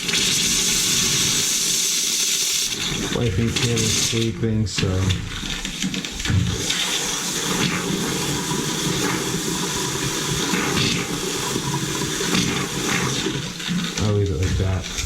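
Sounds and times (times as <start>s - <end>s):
water rushing into tank: 0.0s - 15.0s.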